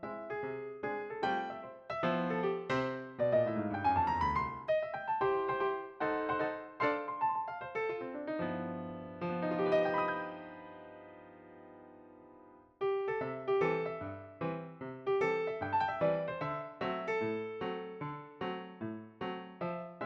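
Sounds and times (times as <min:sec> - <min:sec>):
electric piano tune: 0:00.0 - 0:20.0.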